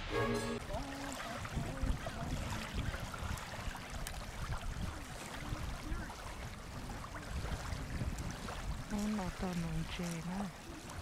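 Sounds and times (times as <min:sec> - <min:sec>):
river water lapping: 0:00.0 - 0:11.0
wind rumbling on microphone: 0:00.6 - 0:11.0.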